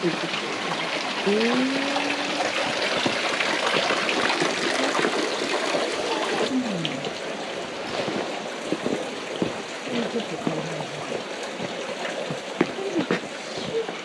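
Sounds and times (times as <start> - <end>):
water trickling into stone basin: 0.0 - 14.0.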